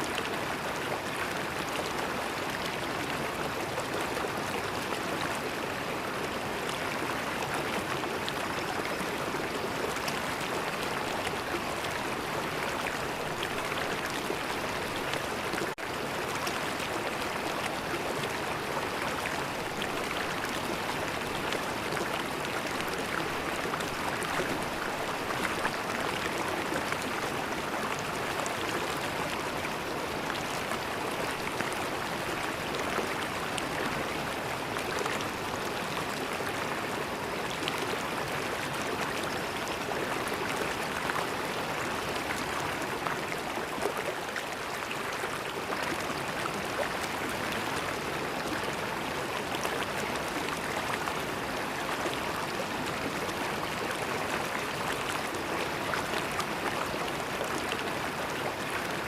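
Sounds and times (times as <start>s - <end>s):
river water flowing and gurgling: 0.0s - 59.0s.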